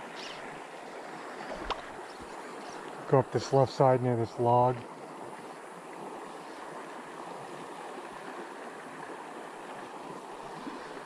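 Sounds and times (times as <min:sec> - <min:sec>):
creek water flowing over rocks: 0:00.0 - 0:11.0.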